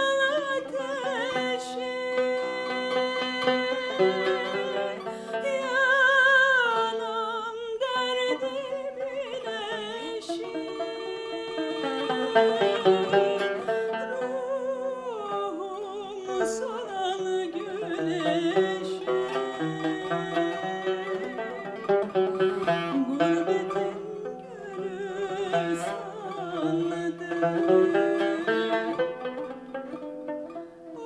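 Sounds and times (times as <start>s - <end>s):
woman singing with vibrato: 0.0s - 29.2s
plucked string accompaniment: 0.0s - 31.0s.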